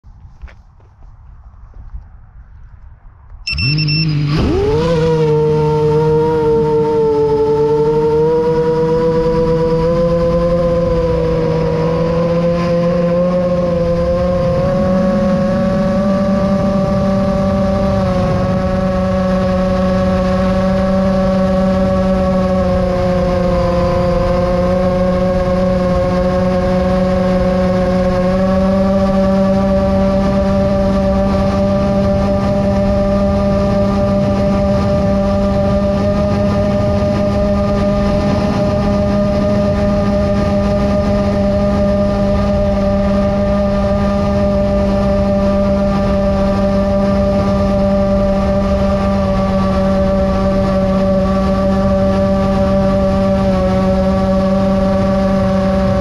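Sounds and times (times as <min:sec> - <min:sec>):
wind on microphone: 0:00.0 - 0:56.0
drone motors whining: 0:02.6 - 0:56.0.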